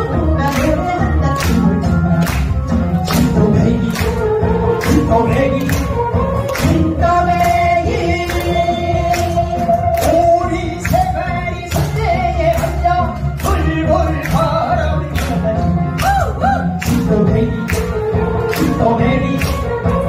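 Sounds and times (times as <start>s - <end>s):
man and woman singing: 0.0s - 2.4s, 3.0s - 20.0s
backing music with steady beat: 0.0s - 20.0s.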